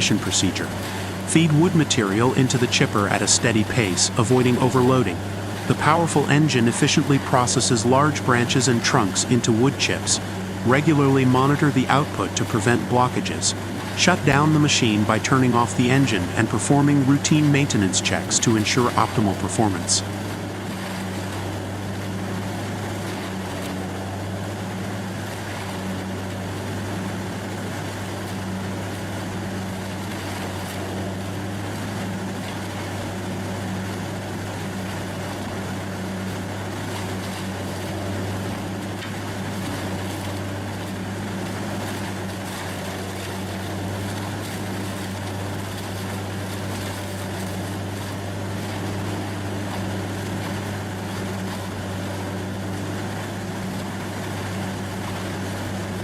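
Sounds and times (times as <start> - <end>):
wood chipper engine droning: 0.0 - 56.0.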